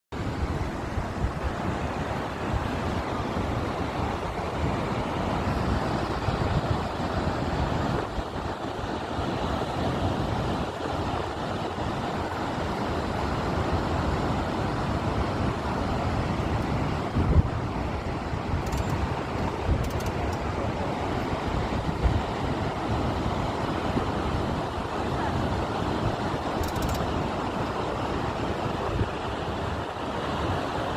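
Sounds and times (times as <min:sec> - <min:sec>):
wind gusts thumping on microphone: 0:00.2 - 0:30.9.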